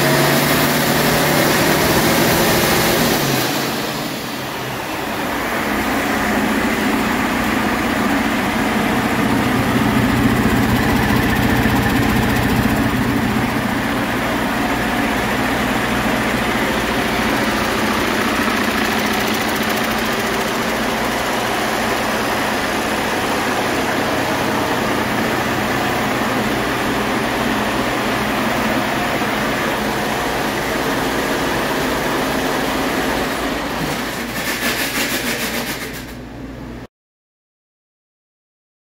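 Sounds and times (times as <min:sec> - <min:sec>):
diesel engine running: 0:00.0 - 0:34.2.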